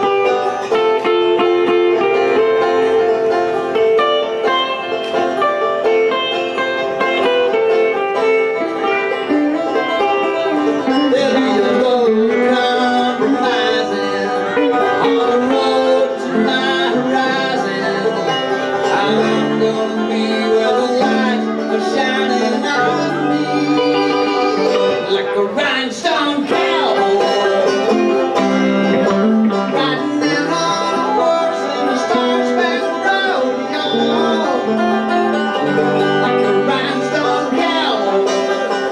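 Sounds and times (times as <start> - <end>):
amplified electric guitar: 0.0 - 38.9
banjo picking: 0.0 - 38.9.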